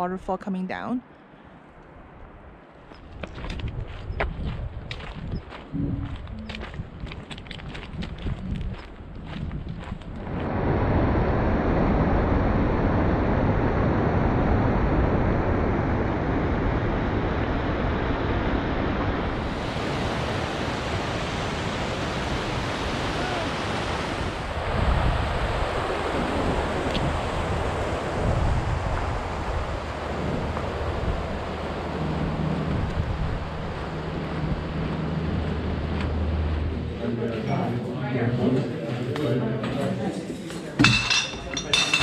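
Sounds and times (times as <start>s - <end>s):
wind buffeting microphone: 2.1s - 37.4s.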